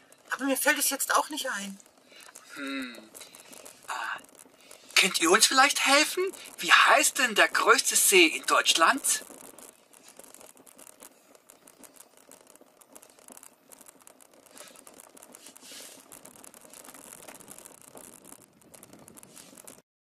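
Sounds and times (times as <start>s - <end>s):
faint rustling: 0.0s - 19.8s
small scattered clicks: 0.0s - 19.8s.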